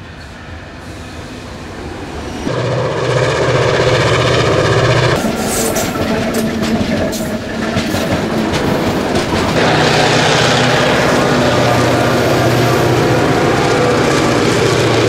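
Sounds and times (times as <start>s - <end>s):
diesel locomotive engine drone: 0.0s - 15.0s
train wheels clicking over rail joints: 2.5s - 15.0s.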